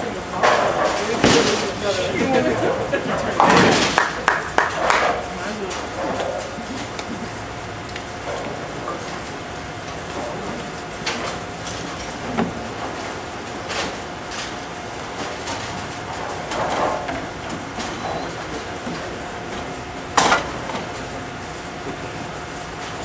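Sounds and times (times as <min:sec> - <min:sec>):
pinsetter machinery running: 0:00.0 - 0:23.0.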